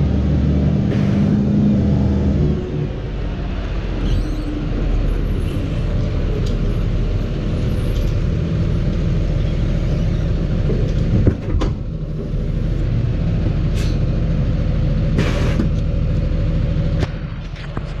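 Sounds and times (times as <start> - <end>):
lorry diesel engine running: 0.0 - 18.0.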